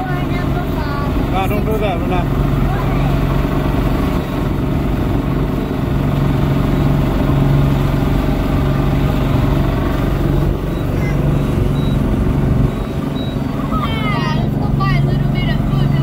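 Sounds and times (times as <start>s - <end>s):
outboard motor running: 0.0s - 16.0s
wind and water rushing: 0.0s - 16.0s.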